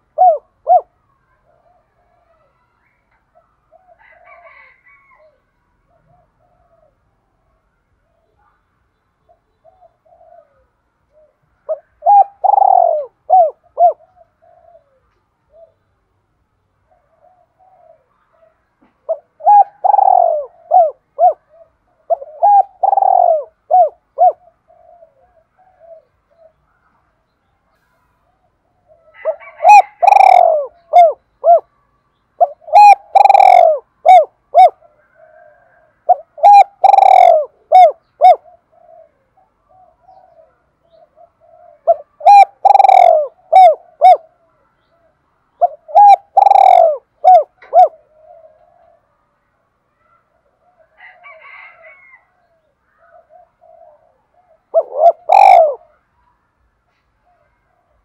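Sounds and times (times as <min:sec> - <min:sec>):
dove cooing: 0:00.0 - 0:08.6, 0:09.2 - 0:16.0, 0:16.8 - 0:31.7, 0:32.4 - 0:49.4, 0:50.0 - 0:56.1.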